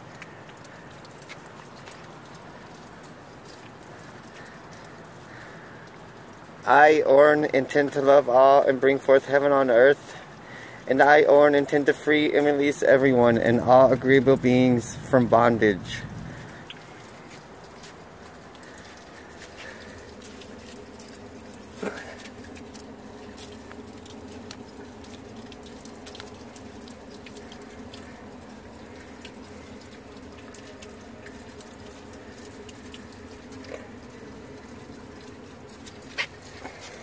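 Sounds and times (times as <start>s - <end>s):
water pouring into basin: 0.0s - 37.0s.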